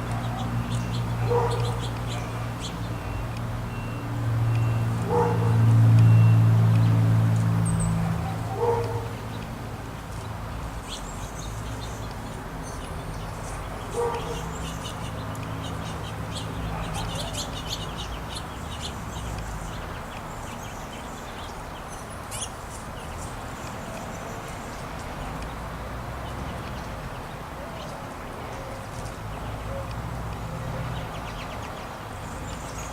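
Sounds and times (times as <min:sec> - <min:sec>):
songbirds chirping and twittering: 0:00.0 - 0:32.9.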